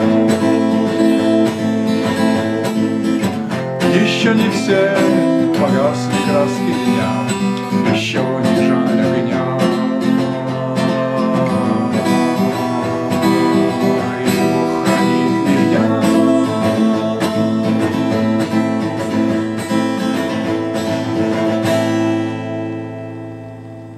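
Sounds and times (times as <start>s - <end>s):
acoustic guitar strumming chords: 0.0s - 23.9s.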